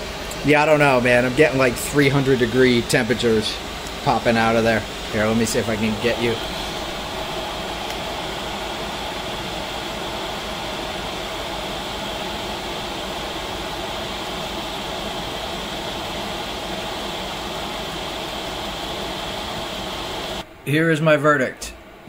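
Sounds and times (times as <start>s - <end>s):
diesel air heater fan noise: 0.0s - 22.0s.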